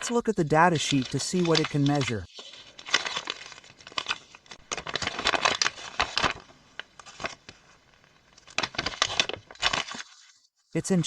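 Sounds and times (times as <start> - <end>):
paper crinkling and rustling: 0.0 - 10.5.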